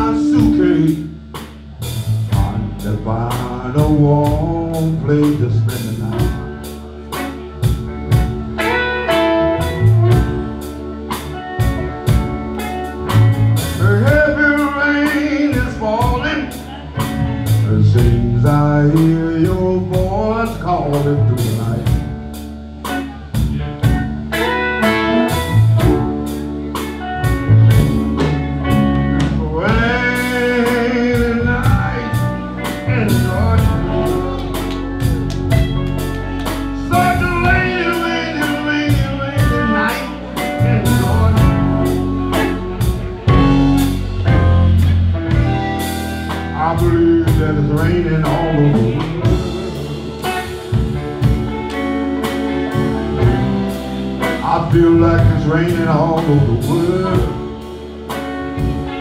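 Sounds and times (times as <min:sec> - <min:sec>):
live blues band: 0:00.0 - 0:59.0.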